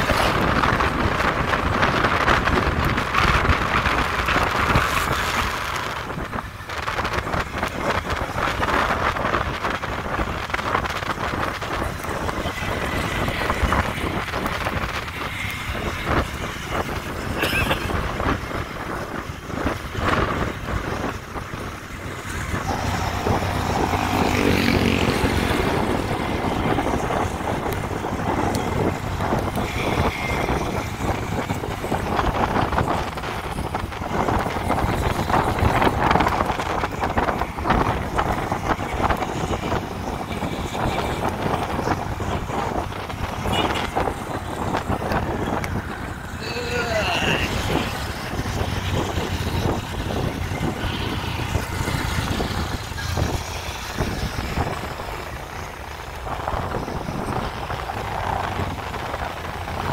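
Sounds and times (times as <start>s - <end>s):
tyres on road: 0.0s - 59.9s
wind buffeting microphone: 0.0s - 59.9s.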